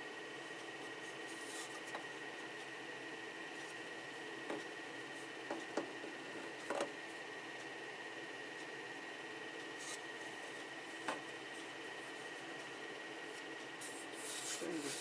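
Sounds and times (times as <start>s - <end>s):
background hum with high whine: 0.0s - 15.0s.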